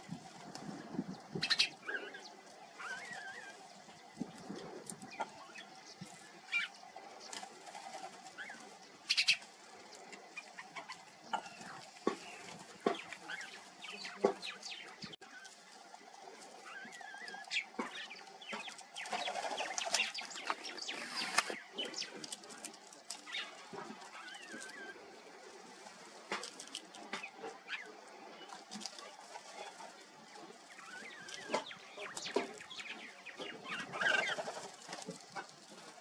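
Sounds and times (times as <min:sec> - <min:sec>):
birds chirping: 0:00.0 - 0:25.8, 0:26.8 - 0:36.0
rustling: 0:06.0 - 0:36.0.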